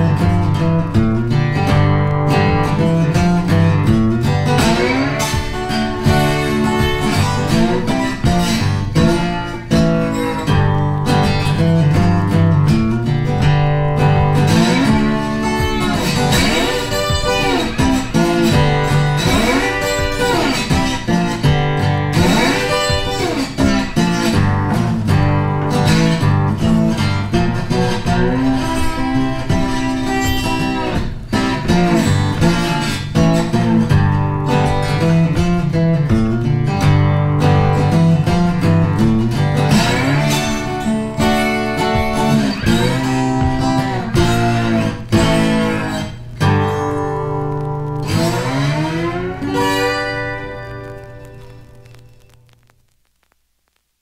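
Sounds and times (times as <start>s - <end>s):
guitar music with pitch bends: 0.0s - 53.8s.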